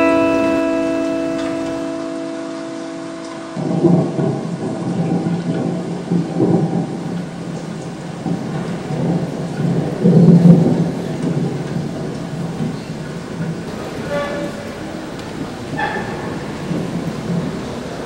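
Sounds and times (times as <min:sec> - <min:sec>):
rolling thunder: 0:00.0 - 0:18.0
steady rain: 0:00.0 - 0:18.0.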